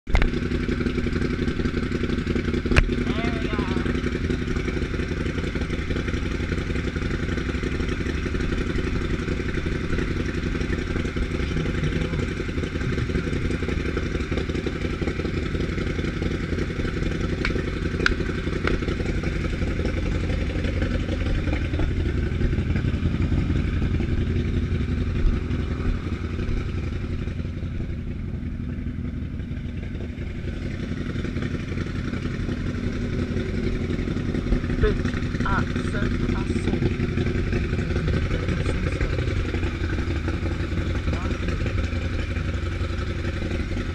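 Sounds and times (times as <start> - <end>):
engine idling: 0.1 - 43.9.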